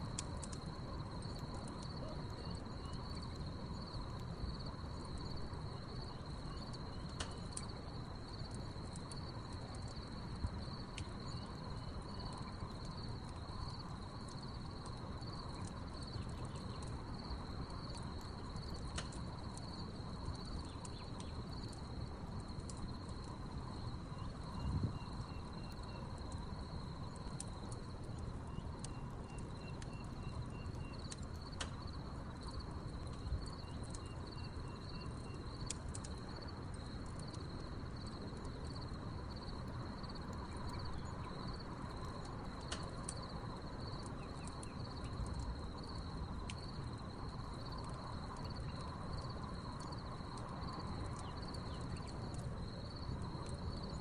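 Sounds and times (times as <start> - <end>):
crickets trilling: 0.0 - 54.0
wood fire crackling: 0.0 - 54.0.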